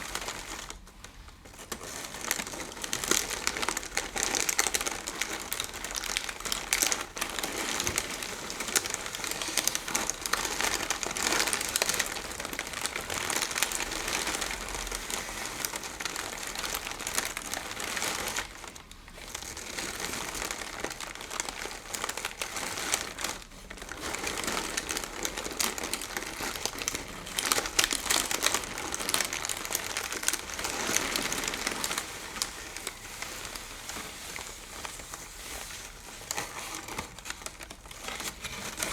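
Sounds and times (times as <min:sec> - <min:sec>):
crinkly material scrunched by hands: 0:00.0 - 0:38.9.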